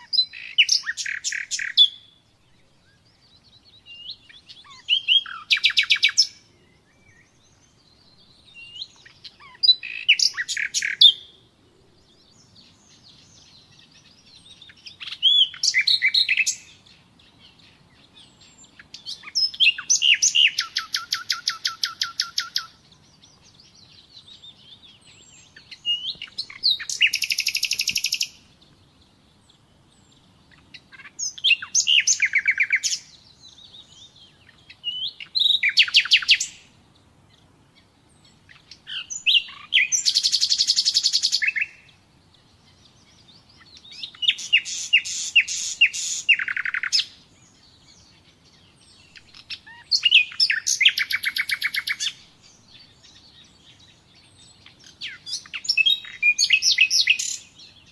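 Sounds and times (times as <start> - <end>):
nightingale singing: 0.0 - 57.9.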